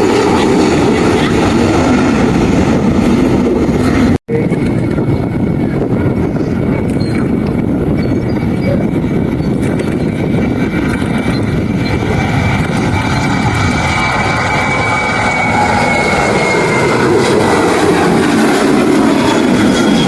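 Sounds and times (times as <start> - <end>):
aircraft engines running: 0.0 - 20.0.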